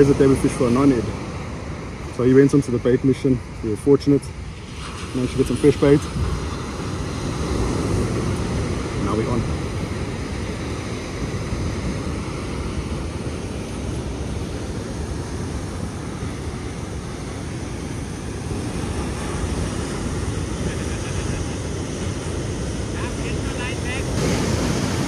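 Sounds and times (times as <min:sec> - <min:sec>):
breaking surf: 0:00.0 - 0:25.0
wind buffeting microphone: 0:04.3 - 0:25.0.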